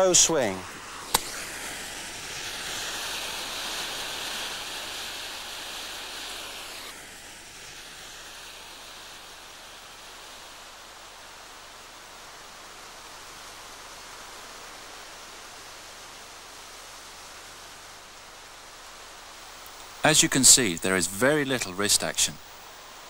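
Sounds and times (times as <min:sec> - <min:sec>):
bright hiss: 0:00.0 - 0:23.0
outdoor air hiss: 0:00.0 - 0:23.0
tape hiss: 0:00.0 - 0:23.0.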